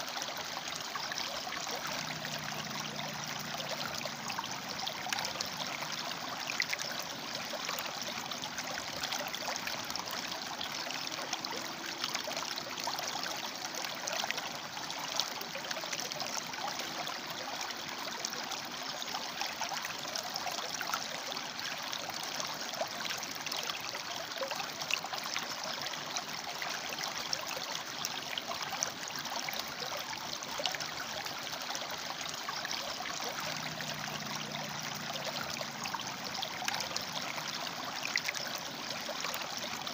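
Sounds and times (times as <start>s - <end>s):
river water splashing over rocks: 0.0s - 39.9s.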